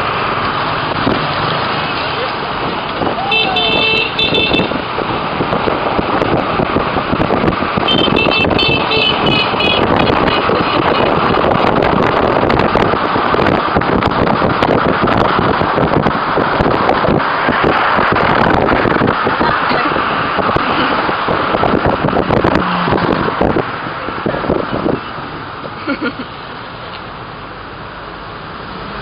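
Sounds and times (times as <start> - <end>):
road noise in traffic: 0.0 - 29.0
wind noise on microphone: 0.0 - 29.0.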